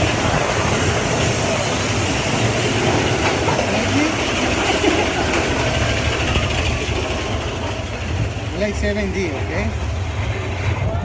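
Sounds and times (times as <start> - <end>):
roller coaster rumble and rattle: 0.0 - 11.0
rushing air: 0.0 - 11.0.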